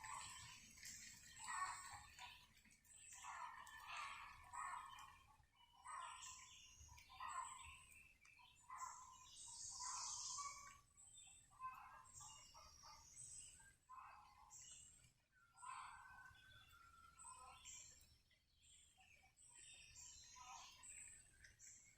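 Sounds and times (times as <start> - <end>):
faint bird chirps: 0.0 - 21.9.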